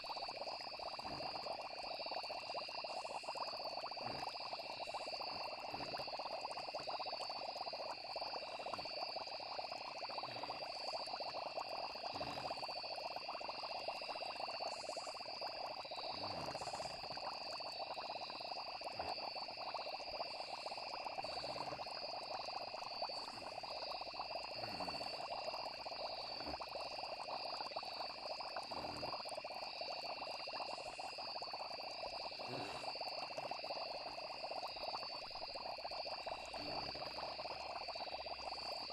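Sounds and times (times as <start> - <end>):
frogs croaking: 0.0 - 38.9
insects trilling: 0.0 - 38.9.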